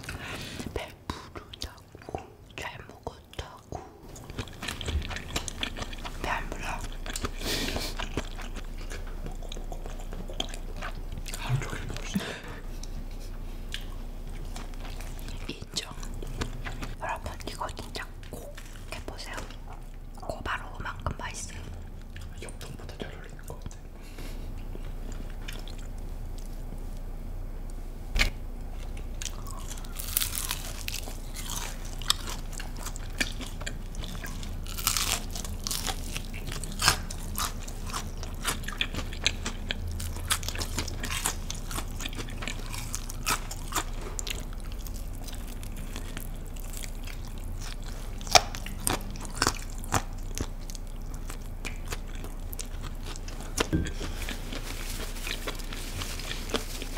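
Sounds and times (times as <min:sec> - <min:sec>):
crunchy fried chicken chewing: 0:00.0 - 0:20.6, 0:28.2 - 0:56.9.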